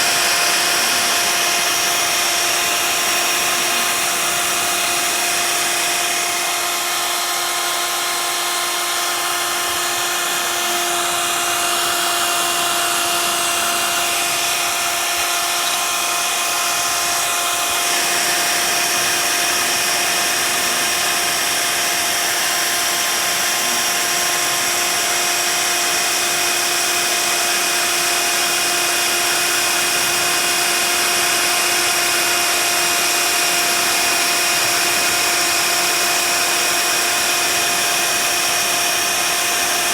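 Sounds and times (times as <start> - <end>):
router cutting plastic sheet: 0.0 - 39.9
router spindle whine: 0.0 - 39.9.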